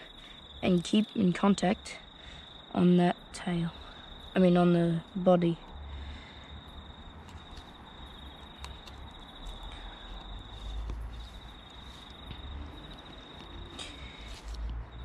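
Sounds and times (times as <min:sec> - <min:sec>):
cricket trilling: 0:00.0 - 0:15.0.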